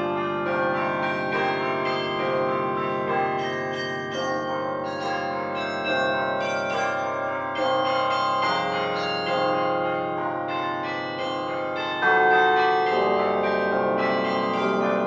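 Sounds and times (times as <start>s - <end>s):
ringing bell tones: 0.0s - 15.0s.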